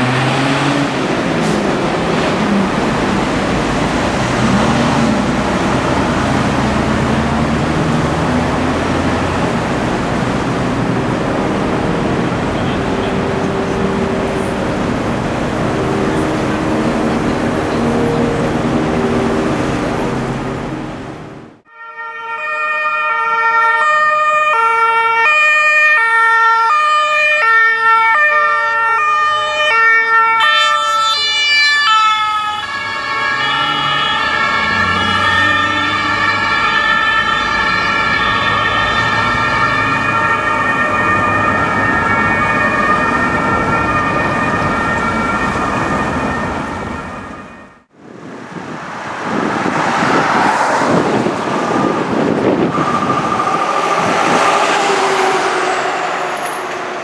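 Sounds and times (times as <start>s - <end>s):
van engine and tyre noise: 0.0s - 21.7s, 26.0s - 57.0s
two-tone police sirens: 0.0s - 57.0s.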